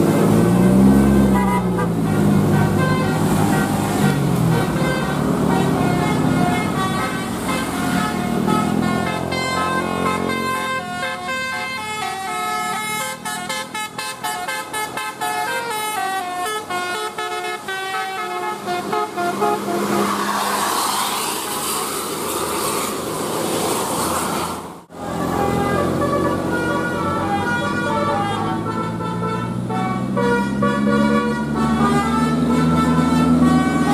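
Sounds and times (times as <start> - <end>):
bus engine running: 0.0 - 33.9
multi-tone air horn tune: 1.2 - 20.3, 24.9 - 33.9.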